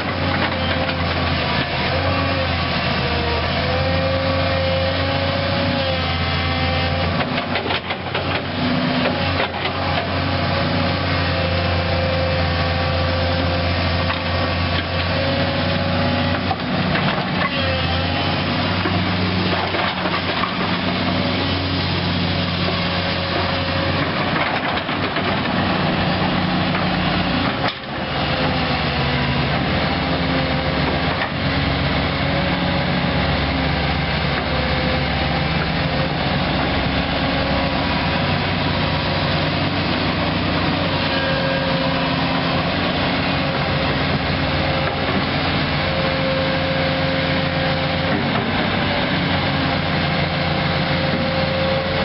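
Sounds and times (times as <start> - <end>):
diesel excavator engine running: 0.0 - 52.0.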